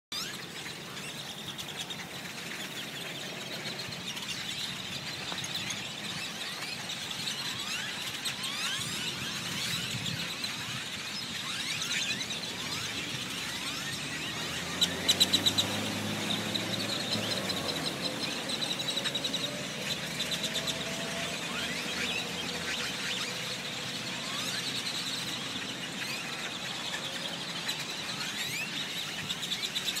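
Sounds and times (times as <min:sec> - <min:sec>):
flock of blackbirds calling: 0:00.1 - 0:30.0.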